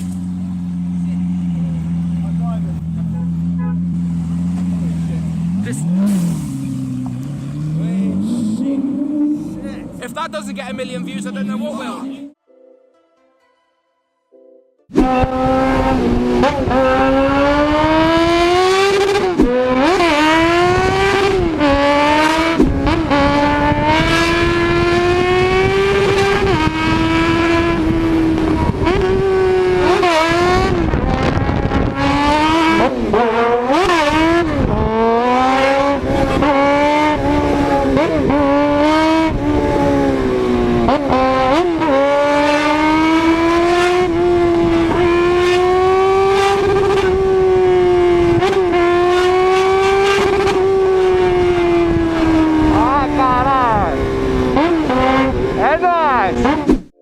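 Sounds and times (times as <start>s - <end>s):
car engine revving high: 0.0s - 12.4s, 14.9s - 56.9s.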